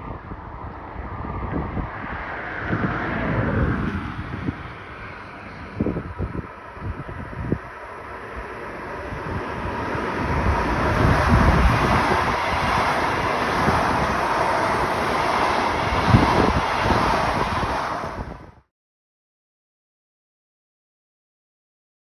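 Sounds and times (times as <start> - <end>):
electric train passing: 0.0 - 18.7
wind buffeting microphone: 0.0 - 18.7.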